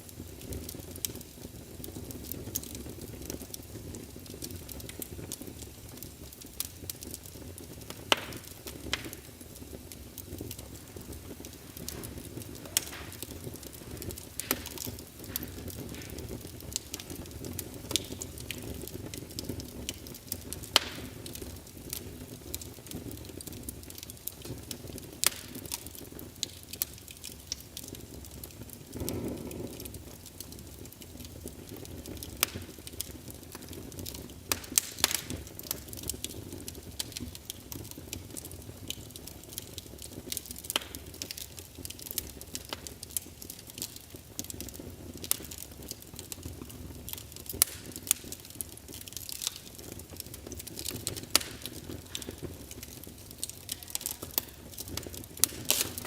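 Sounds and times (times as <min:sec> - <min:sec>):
fireplace crackling: 0:00.0 - 0:56.0
low rumble of burning wood: 0:00.0 - 0:56.0.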